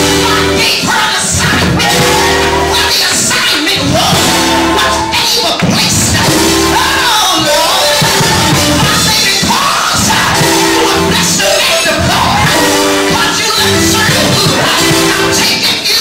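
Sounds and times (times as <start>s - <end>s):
gospel music: 0.0s - 16.0s
people singing and shouting: 0.0s - 16.0s.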